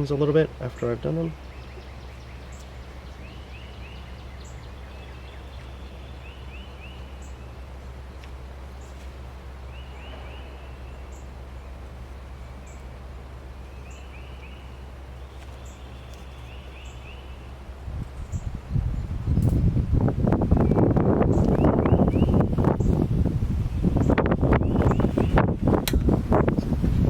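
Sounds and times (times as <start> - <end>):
small birds chirping: 0.0 - 27.0
steady low rumble: 0.0 - 27.0.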